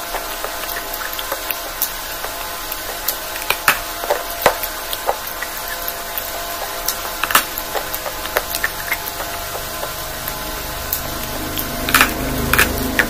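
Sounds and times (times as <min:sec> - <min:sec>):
background hum: 0:00.0 - 0:13.0
chewing and mouth sounds: 0:00.0 - 0:13.0.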